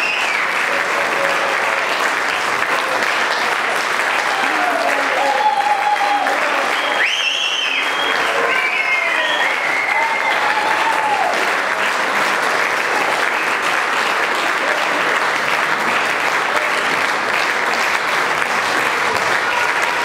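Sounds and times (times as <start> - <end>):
audience applauding: 0.0 - 20.0
audience cheering: 0.0 - 20.0.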